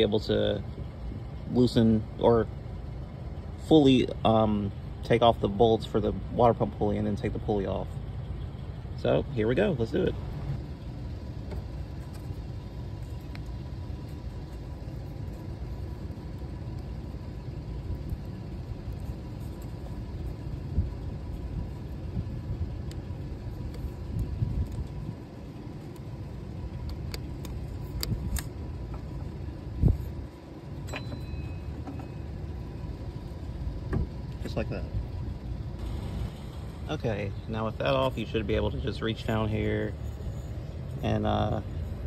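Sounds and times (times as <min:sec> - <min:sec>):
low background rumble: 0:00.0 - 0:42.0.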